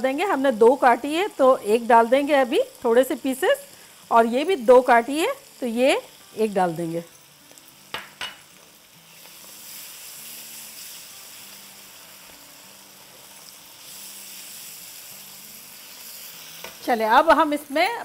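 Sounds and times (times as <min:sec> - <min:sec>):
masala sizzling in a wok: 0:00.0 - 0:18.0.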